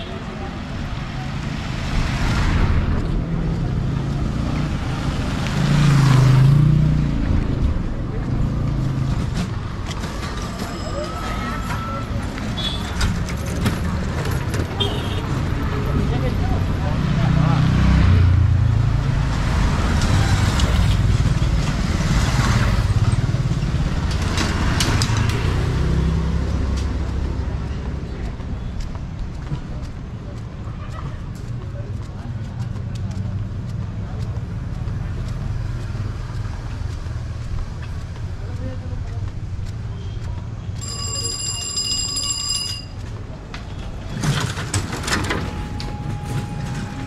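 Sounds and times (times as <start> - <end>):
road noise: 0.0 - 47.0.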